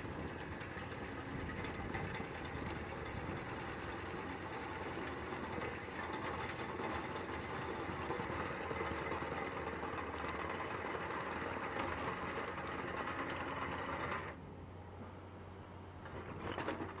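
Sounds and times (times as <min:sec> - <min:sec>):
screening bucket rattling: 0:00.0 - 0:14.3, 0:16.1 - 0:17.0
excavator engine humming: 0:00.0 - 0:14.5.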